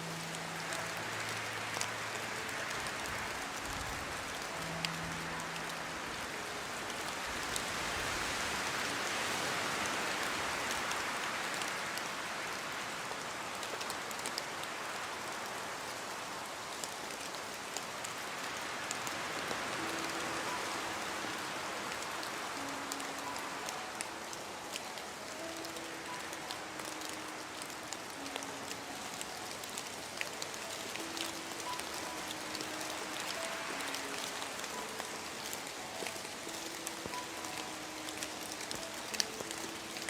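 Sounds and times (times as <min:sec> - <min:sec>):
heavy rain on hard surface: 0:00.0 - 0:40.0.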